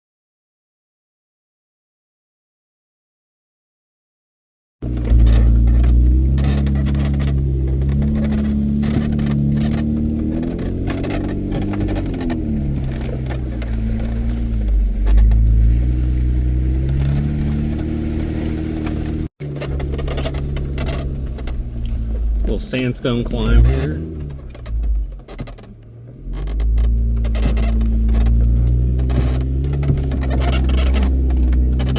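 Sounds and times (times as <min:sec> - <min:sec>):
off-road vehicle engine under load: 0:04.8 - 0:31.9
tyres and body scraping and knocking: 0:04.8 - 0:31.9.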